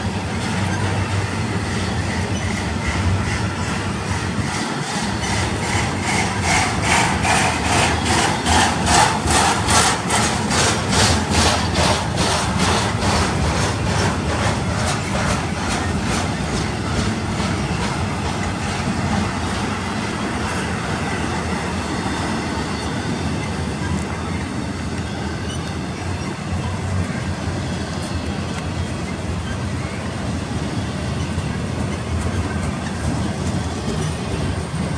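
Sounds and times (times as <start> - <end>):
train wheels clicking over rail joints: 0.0 - 34.9
train wheels rolling on rail: 0.0 - 34.9.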